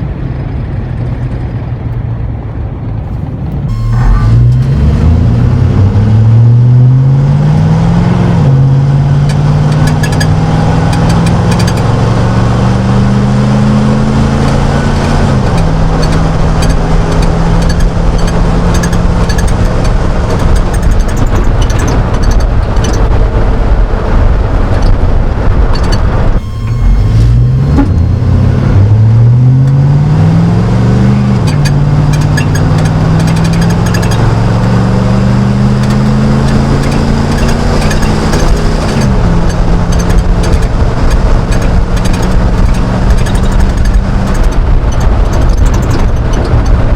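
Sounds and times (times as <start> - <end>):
truck engine exhaust: 0.0 - 46.9.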